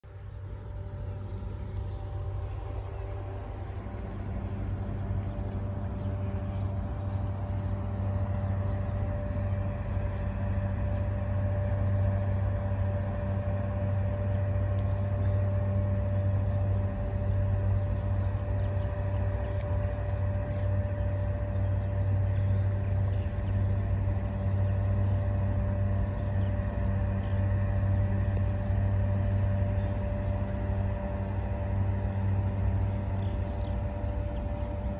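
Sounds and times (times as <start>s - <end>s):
boat diesel engines droning: 0.0s - 34.9s
humming tone: 0.0s - 34.9s.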